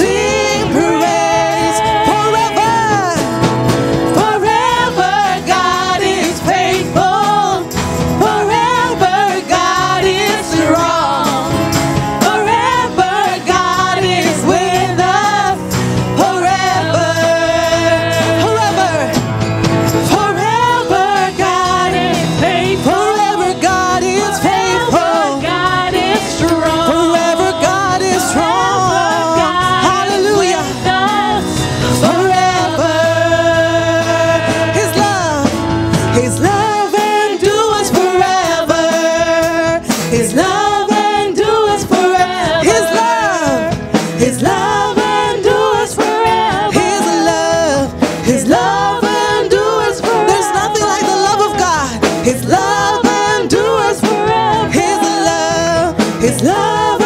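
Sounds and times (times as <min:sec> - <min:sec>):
gospel praise band: 0:00.0 - 0:57.0
people singing: 0:00.0 - 0:57.0.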